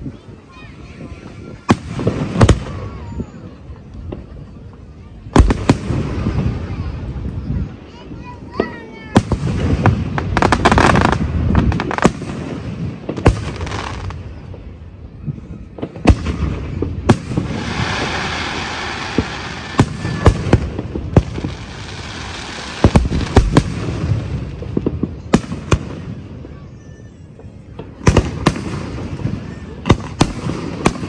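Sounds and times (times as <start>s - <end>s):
fireworks hissing: 0.0s - 26.6s
fireworks bursting bangs: 0.0s - 31.0s
fireworks rumble: 0.0s - 31.0s.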